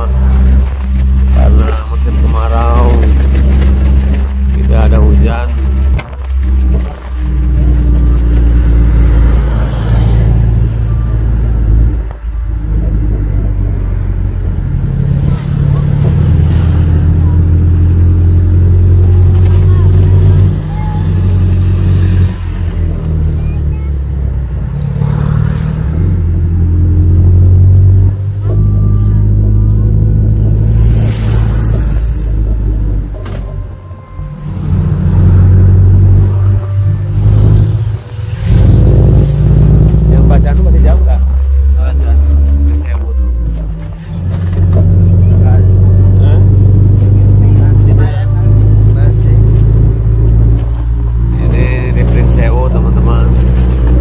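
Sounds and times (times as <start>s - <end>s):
vehicle engine rumble: 0.0s - 54.0s.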